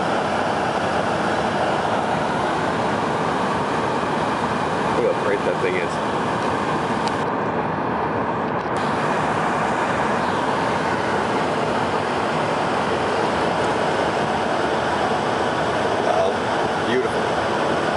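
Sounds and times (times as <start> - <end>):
road noise inside vehicle cabin: 0.0 - 17.9.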